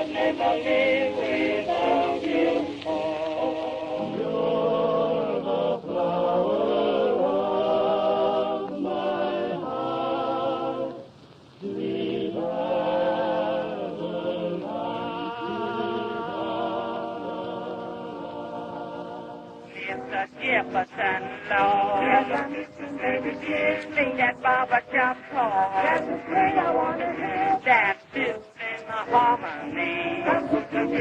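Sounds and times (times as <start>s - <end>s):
male voices singing close harmony: 0.0s - 31.0s.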